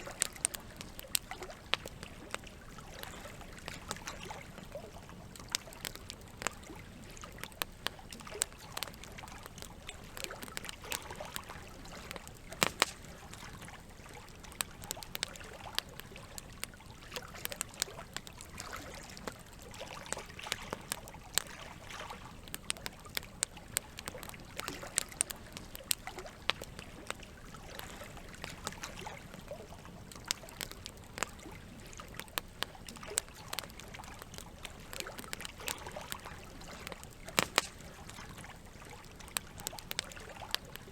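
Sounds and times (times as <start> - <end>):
campfire wood crackling and popping: 0.0 - 40.9
trickle of running water: 0.0 - 40.9.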